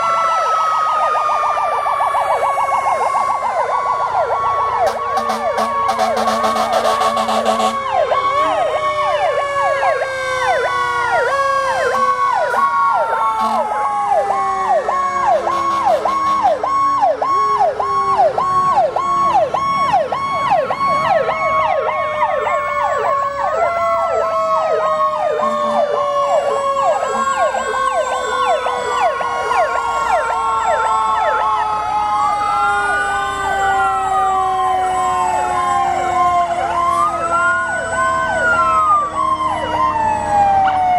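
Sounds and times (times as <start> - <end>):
fire truck sirens yelping: 0.0 - 40.9
rising and falling siren wails: 0.0 - 40.9
slowly falling siren tones: 0.0 - 40.9.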